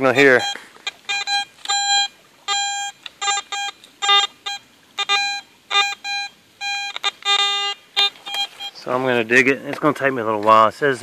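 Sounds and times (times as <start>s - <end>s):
metal detector beeps: 0.1s - 9.2s.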